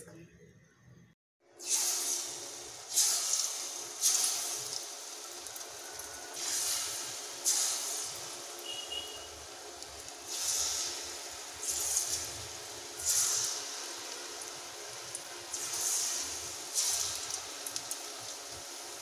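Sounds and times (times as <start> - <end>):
batter sizzling in hot oil: 1.6 - 19.0.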